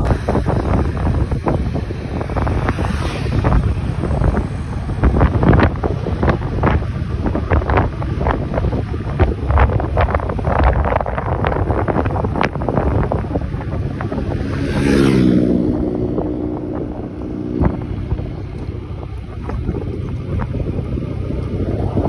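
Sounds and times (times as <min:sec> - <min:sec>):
scooter engine passing by: 0:00.0 - 0:09.8, 0:12.6 - 0:22.0
wind buffeting microphone: 0:00.0 - 0:22.0.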